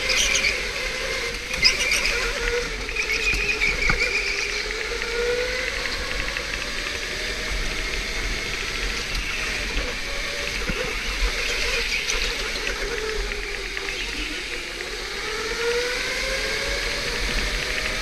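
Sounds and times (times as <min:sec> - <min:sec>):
electric go-kart motor whining: 0:00.0 - 0:18.0.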